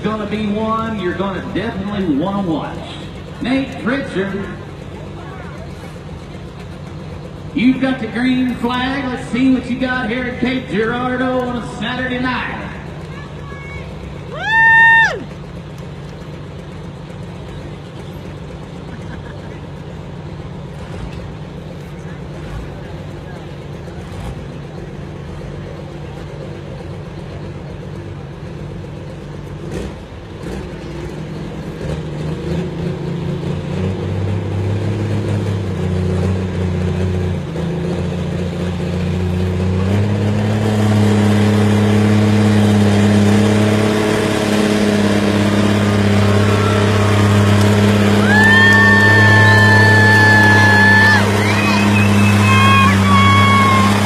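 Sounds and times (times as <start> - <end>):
tractor engine running hard: 0.0 - 54.0.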